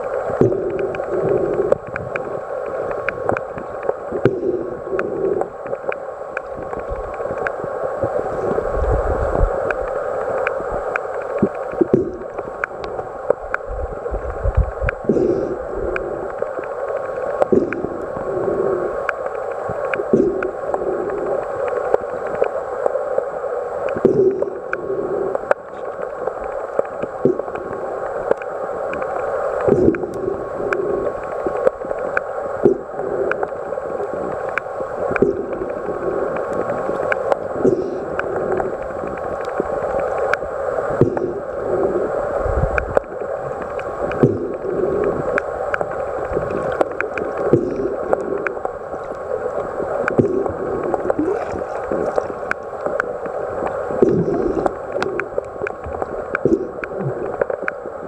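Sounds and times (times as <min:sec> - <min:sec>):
muffled underwater rush: 0:00.0 - 0:58.0.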